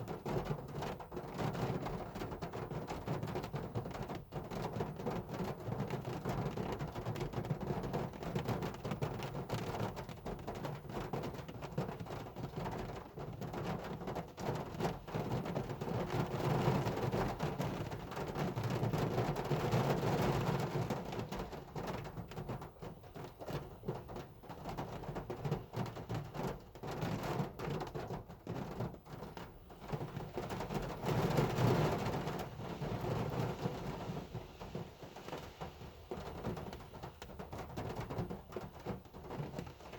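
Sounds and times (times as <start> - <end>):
hard rain drumming on a car: 0.0 - 39.9.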